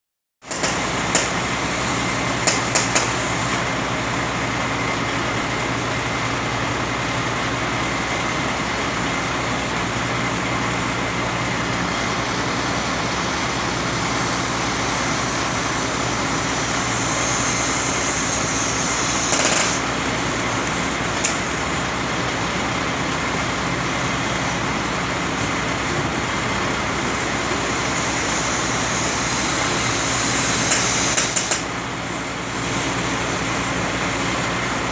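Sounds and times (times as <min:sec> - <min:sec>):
cutting torch hissing: 0:00.5 - 0:34.9.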